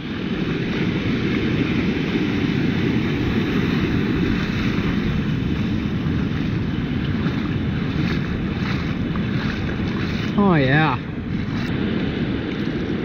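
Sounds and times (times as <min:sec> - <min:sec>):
surf washing in and out: 0:00.0 - 0:13.0
wind buffeting microphone: 0:00.0 - 0:13.0.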